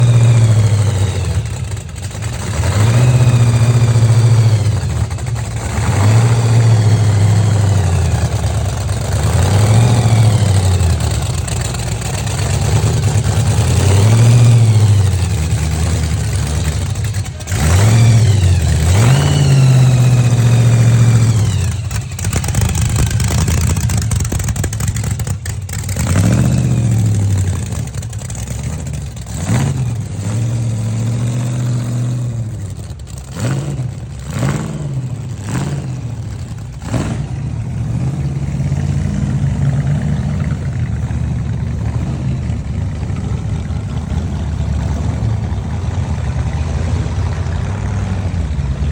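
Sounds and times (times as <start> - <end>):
car engines revving and accelerating: 0.0 - 48.9.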